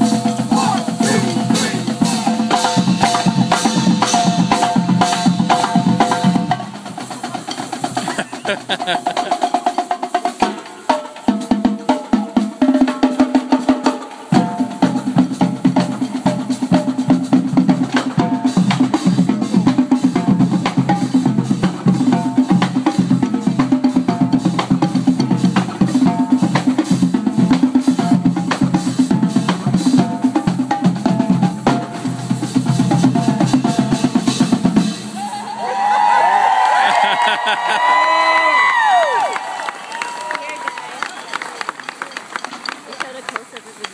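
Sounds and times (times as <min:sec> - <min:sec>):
marching drumline playing: 0:00.0 - 0:35.3.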